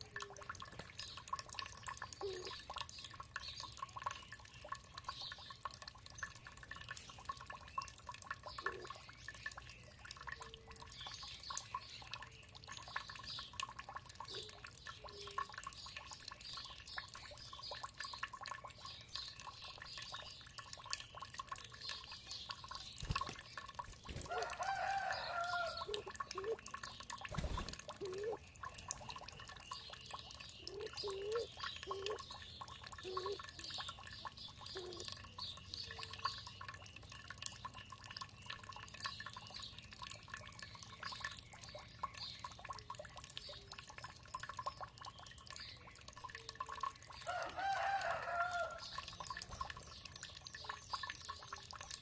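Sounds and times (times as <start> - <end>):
water dripping and trickling: 0.0 - 52.0
birds chirping: 0.2 - 52.0.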